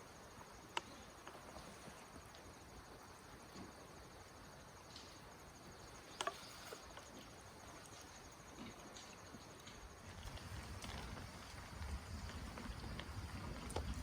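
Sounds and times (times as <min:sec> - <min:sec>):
insects trilling faintly: 0:00.0 - 0:14.0.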